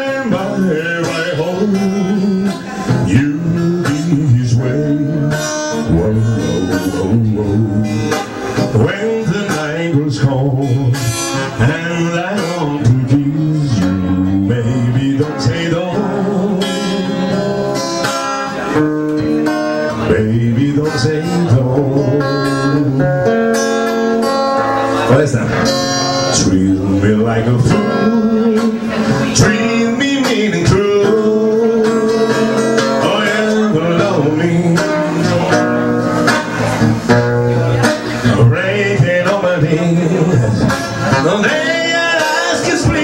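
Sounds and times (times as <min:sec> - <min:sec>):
acoustic guitar strumming chords: 0:00.0 - 0:43.0.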